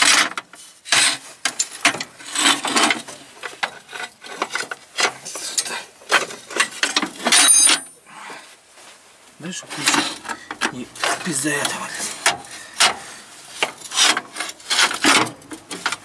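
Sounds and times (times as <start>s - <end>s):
hand tool rasping and scraping: 0.0s - 7.8s, 9.6s - 16.0s.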